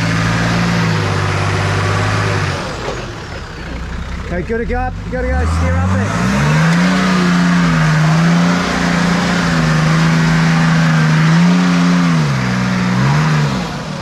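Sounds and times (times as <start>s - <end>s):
vehicle engine revving hard: 0.0s - 3.3s, 5.0s - 14.0s.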